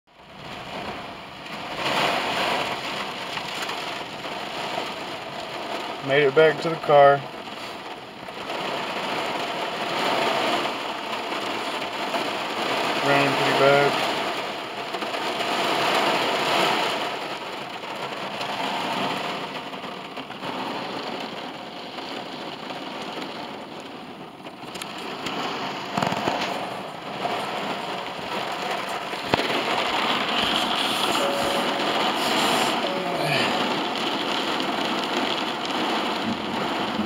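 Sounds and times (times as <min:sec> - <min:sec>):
heavy rain drumming on car roof: 0:00.1 - 0:37.0.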